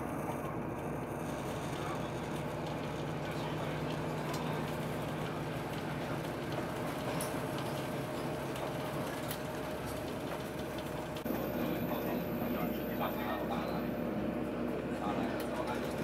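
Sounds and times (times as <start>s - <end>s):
continuous train rumble: 0.0s - 16.0s
low train hum: 0.0s - 16.0s.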